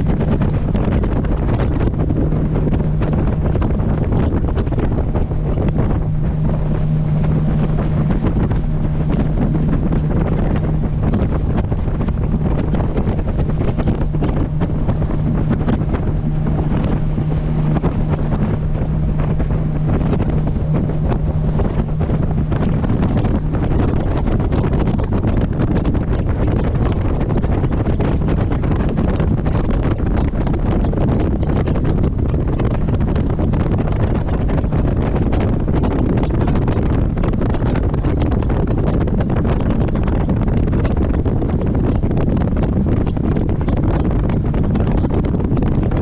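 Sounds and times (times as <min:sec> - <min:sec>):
boat engine humming: 0:00.0 - 0:46.0
water rushing past hull: 0:00.0 - 0:46.0
wind buffeting microphone: 0:00.0 - 0:46.0.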